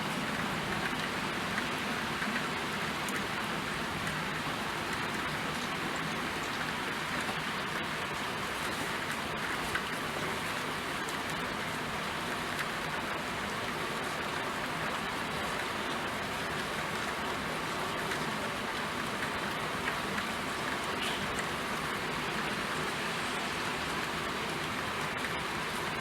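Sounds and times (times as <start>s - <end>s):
rain pattering on a surface: 0.0s - 26.0s.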